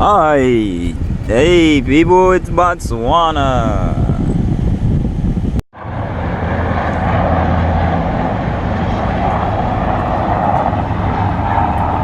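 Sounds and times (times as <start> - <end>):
airplane engine flying overhead: 0.0 - 12.0.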